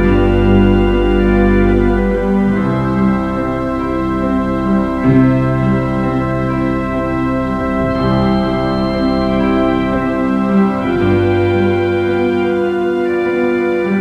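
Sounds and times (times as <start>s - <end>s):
organ playing held chords: 0.0s - 14.0s.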